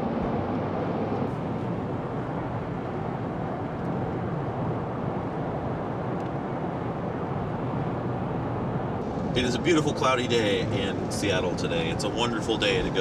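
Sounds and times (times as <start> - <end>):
road noise inside car cabin: 0.0 - 13.0.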